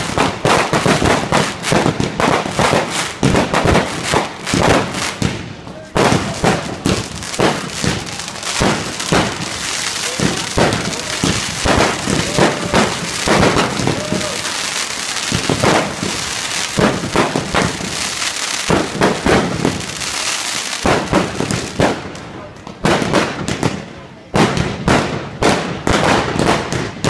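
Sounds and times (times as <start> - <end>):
firework shells bursting: 0.0 - 22.0
firework crackle: 0.0 - 27.0.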